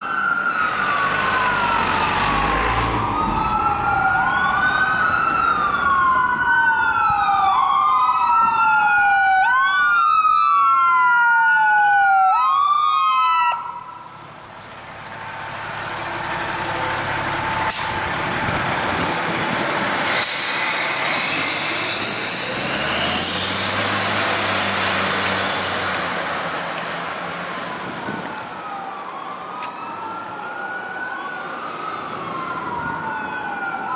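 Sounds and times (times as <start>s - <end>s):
fire engine passing: 0.0s - 33.9s
sirens wailing: 0.0s - 33.9s.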